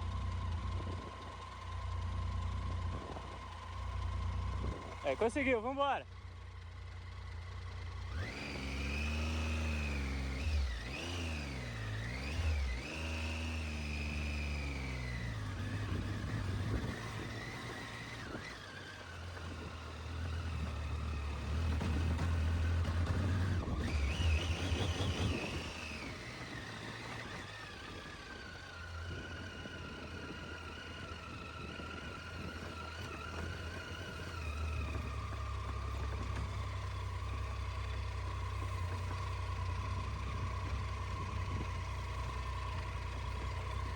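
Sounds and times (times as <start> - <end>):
motorcycle engine pulling away: 6.2 - 43.9.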